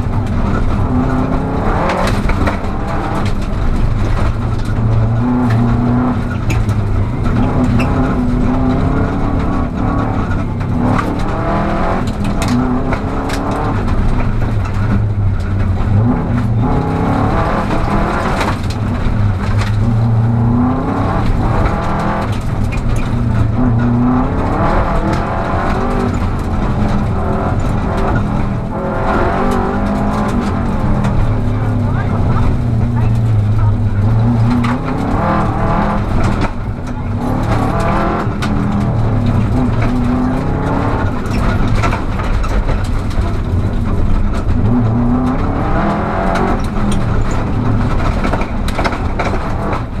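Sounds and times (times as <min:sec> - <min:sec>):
rally car engine revving: 0:00.0 - 0:50.0
road noise on gravel: 0:00.0 - 0:50.0
sharp knocks and clatter: 0:00.0 - 0:50.0.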